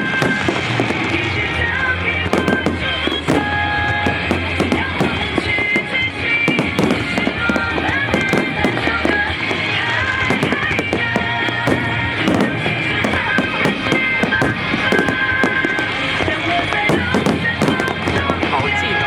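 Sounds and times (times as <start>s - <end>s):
fireworks cracks and bangs: 0.0s - 19.0s
music: 0.0s - 19.0s.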